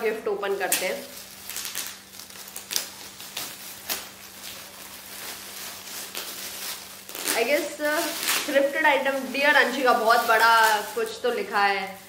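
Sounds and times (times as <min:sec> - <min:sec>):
sharp crackles and clicks: 0:00.6 - 0:11.4
gift wrapping crinkling and tearing: 0:00.6 - 0:12.0.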